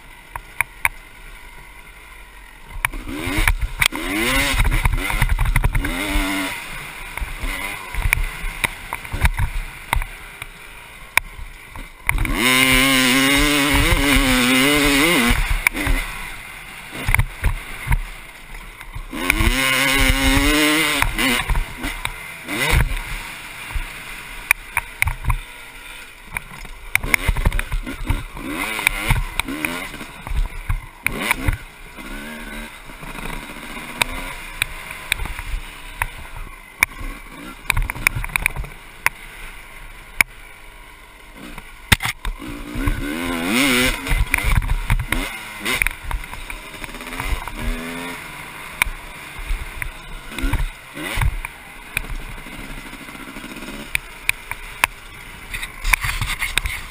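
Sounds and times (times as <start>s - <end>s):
two-stroke motorcycle engine revving: 0.0s - 56.9s
motorcycle knocks and rattles: 2.7s - 25.5s, 26.2s - 39.2s, 41.4s - 56.9s.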